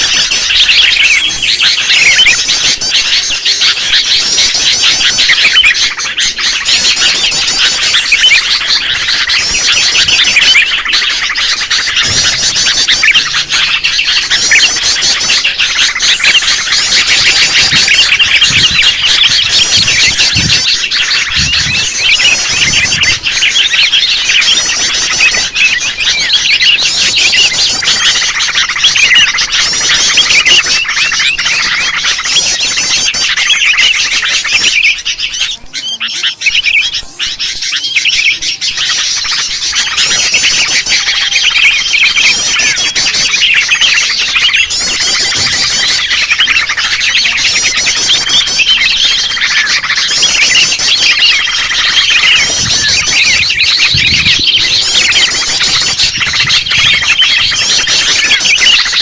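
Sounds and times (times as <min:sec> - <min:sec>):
bulbuls chattering and calling: 0:00.0 - 0:59.0.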